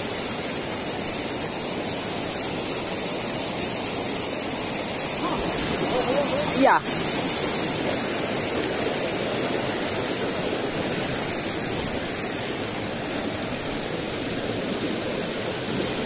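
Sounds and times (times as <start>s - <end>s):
stream rushing over boulders: 0.0s - 16.0s.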